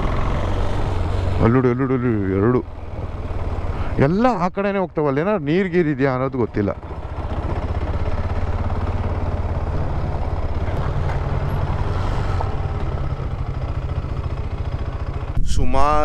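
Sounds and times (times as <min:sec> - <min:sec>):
motorcycle engine throbbing: 0:00.0 - 0:16.0.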